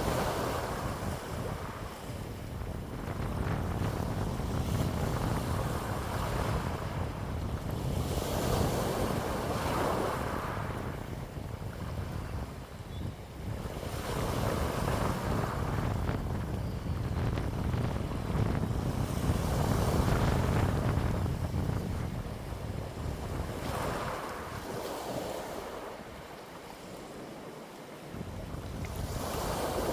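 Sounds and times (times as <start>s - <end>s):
wind gusts buffeting microphone: 0.0s - 26.3s, 28.1s - 29.9s.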